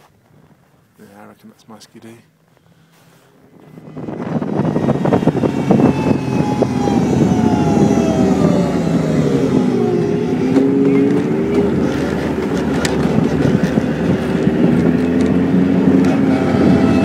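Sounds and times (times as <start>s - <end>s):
snowmobile engine whining: 2.8s - 17.0s.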